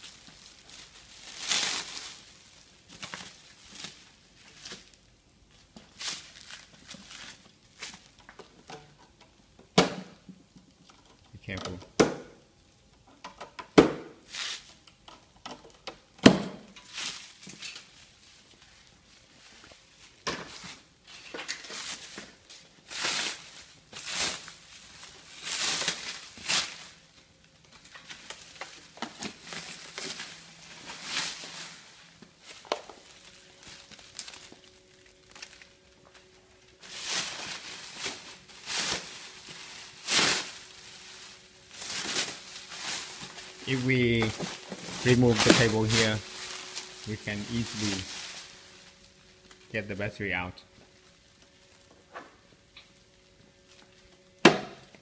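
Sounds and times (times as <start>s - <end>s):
plastic wrap crinkling: 0.0s - 8.5s, 16.8s - 54.4s.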